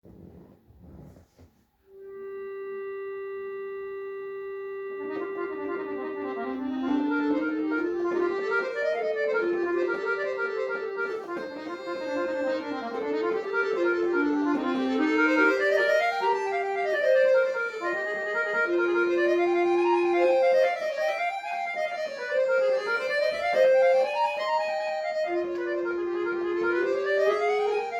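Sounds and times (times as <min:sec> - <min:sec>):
solo accordion playing: 0:01.9 - 0:27.9.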